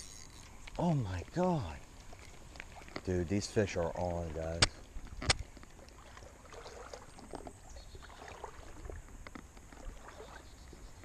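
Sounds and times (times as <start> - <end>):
creek water lapping: 0.0 - 11.0
small ticks and splashes: 0.0 - 11.0.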